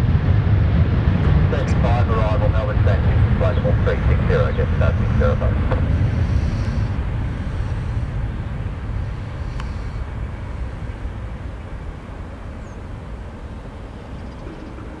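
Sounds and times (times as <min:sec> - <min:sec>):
distant jet engines at takeoff: 0:00.0 - 0:15.0.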